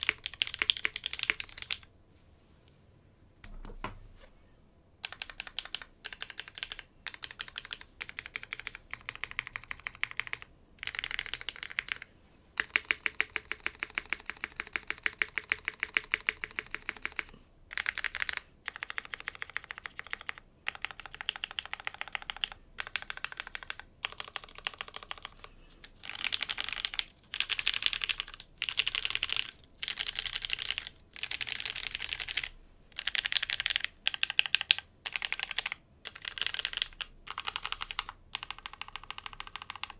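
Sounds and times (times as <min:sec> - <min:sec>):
mechanical keyboard typing: 0:00.0 - 0:01.9, 0:05.0 - 0:39.9.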